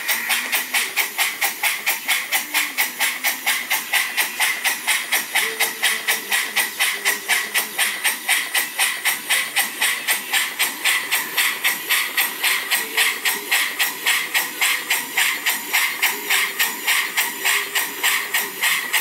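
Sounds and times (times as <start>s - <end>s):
steam engine exhaust puffing: 0.0s - 19.0s.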